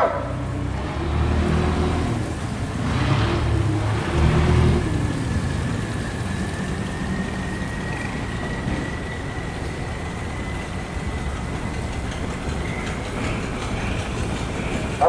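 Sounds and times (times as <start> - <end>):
motorboat engines passing: 0.0 - 15.0
churning water hiss: 1.2 - 15.0.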